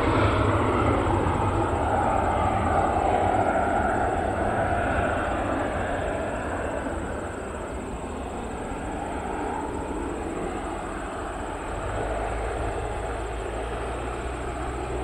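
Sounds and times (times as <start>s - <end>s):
high jet whine: 0.0s - 15.0s
jet engine rushing: 0.0s - 15.0s.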